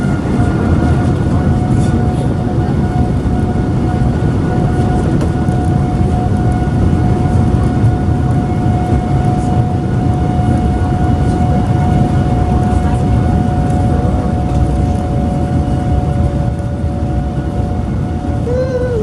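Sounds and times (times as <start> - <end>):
constant hum: 0.0 - 19.0
jet engine rumble in cabin: 0.0 - 19.0.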